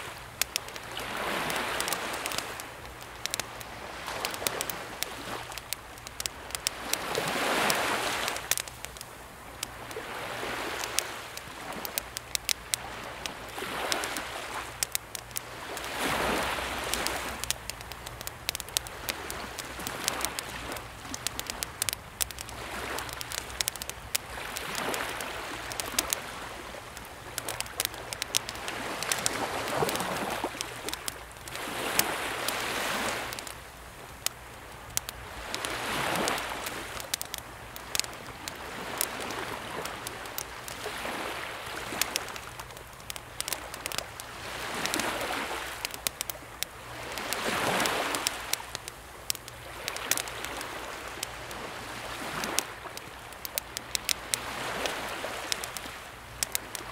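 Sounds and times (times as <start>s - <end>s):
calm sea waves: 0.0s - 56.9s
wood fire crackling and popping: 0.0s - 56.9s.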